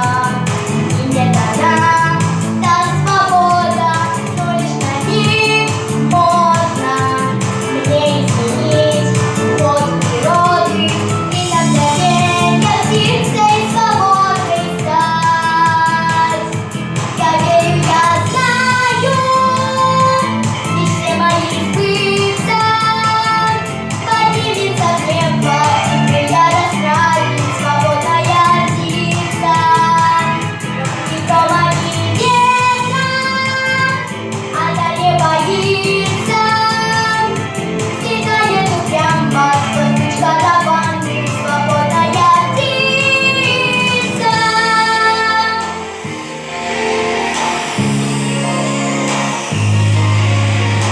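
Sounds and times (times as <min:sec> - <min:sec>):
girl singing pop song: 0:00.0 - 0:46.3
instrumental backing track with beat: 0:00.0 - 0:50.9.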